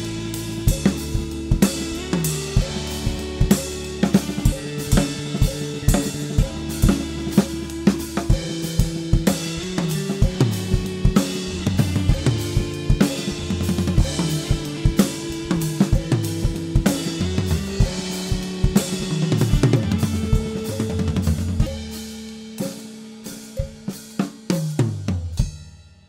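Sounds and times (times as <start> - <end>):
backing song: 0.0 - 21.9
bass drum: 0.0 - 22.2.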